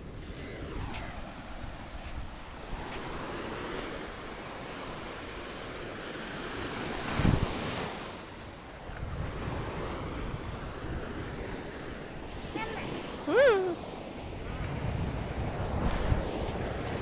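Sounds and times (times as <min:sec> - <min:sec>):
wind on microphone: 0:00.0 - 0:08.1, 0:08.8 - 0:17.0
surf washing onto beach: 0:00.0 - 0:17.0.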